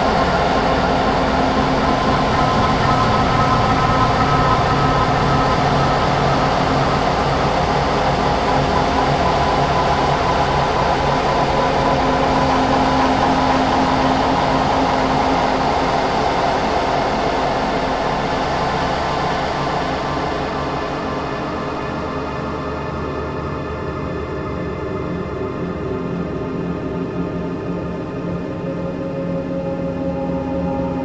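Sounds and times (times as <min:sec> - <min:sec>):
dark ambient electronic drone: 0:00.0 - 0:31.0.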